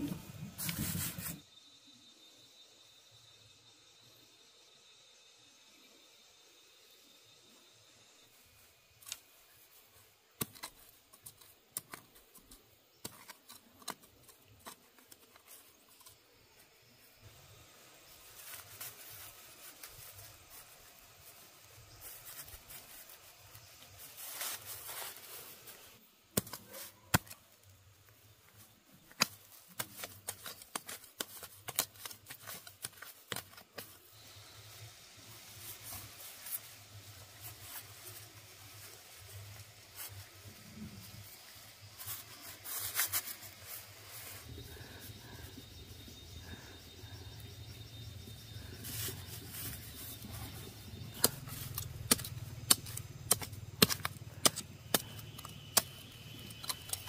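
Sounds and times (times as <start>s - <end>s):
dry straw rustling and crackling: 8.6s - 45.7s, 47.6s - 57.0s.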